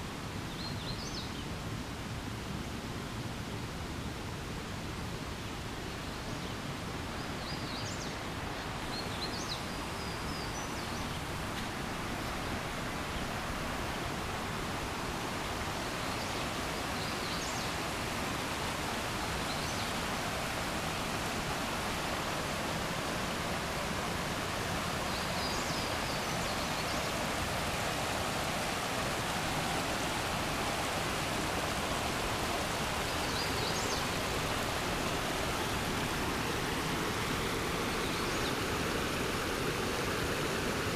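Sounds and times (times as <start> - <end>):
creek water rushing over rocks: 0.0 - 40.9.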